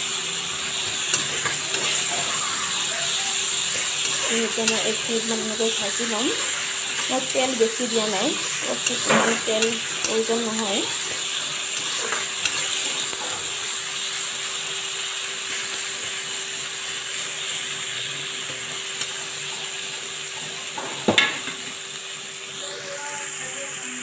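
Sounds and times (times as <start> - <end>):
spice paste sizzling in oil: 0.0 - 24.0.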